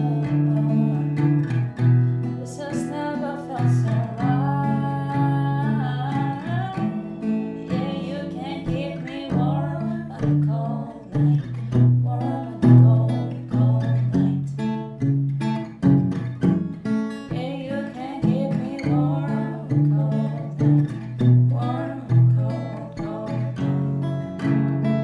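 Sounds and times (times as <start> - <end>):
woman singing softly: 0.0 - 1.6, 2.2 - 15.0, 17.3 - 24.1
acoustic guitar strumming: 0.0 - 25.0.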